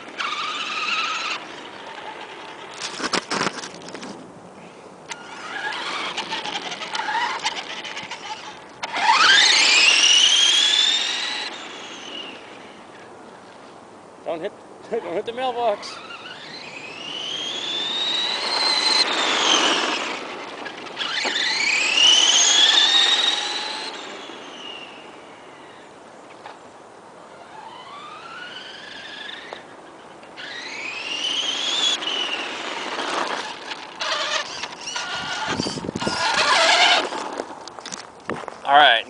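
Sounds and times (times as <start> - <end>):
rc truck electric motor whine: 0.0 - 4.0, 5.1 - 13.0, 15.5 - 26.5, 27.2 - 38.0.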